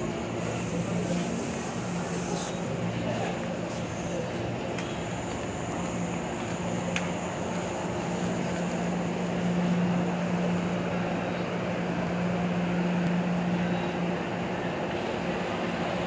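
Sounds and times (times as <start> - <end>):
electric train droning: 0.0 - 16.0.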